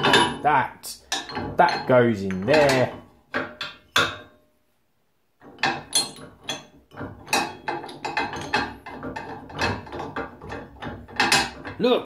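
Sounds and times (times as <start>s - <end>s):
metal clicks and clunks: 0.0s - 4.4s, 5.4s - 11.9s.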